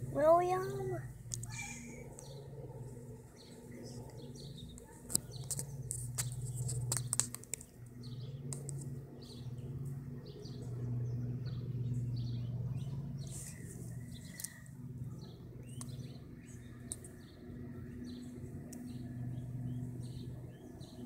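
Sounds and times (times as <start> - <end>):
low steady hum: 0.0 - 21.0
small birds chirping: 0.0 - 21.0.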